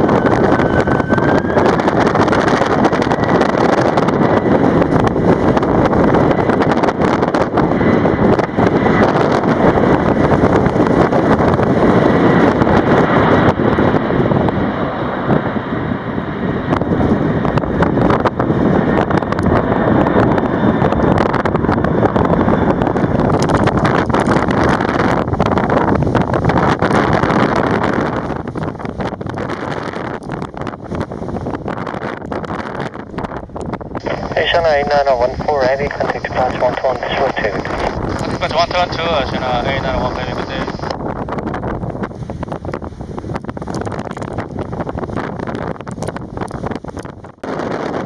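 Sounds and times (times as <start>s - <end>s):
high engine whine: 0.0s - 42.8s
jet engines roaring: 0.0s - 48.0s
wind buffeting microphone: 0.0s - 48.0s.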